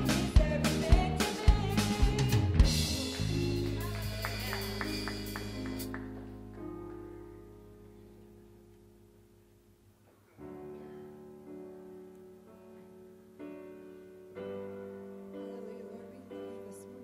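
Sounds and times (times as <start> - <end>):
held keyboard chord: 0.0 - 17.0
soft slow piano chords: 0.0 - 17.0.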